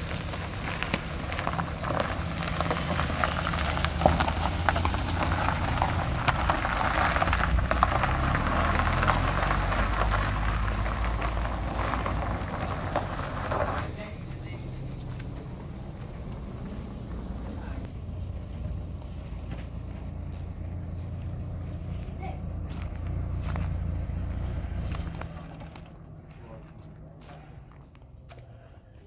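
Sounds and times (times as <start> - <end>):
car engine running: 0.0 - 28.0
gravel crunching: 0.0 - 29.0.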